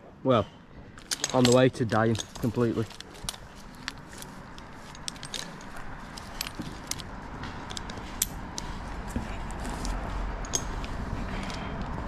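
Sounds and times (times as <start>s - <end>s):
climbing gear clinking: 1.0s - 12.0s.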